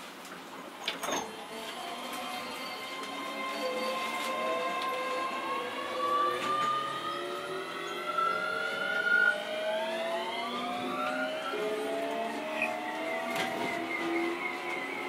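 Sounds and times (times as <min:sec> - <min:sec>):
train running noise: 0:00.8 - 0:15.0
train motors whining: 0:01.0 - 0:15.0.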